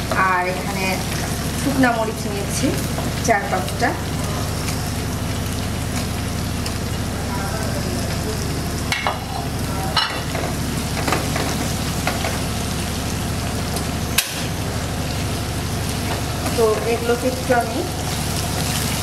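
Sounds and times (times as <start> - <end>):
steady low hum: 0.0 - 19.0
vegetables sizzling in hot oil: 0.0 - 19.0.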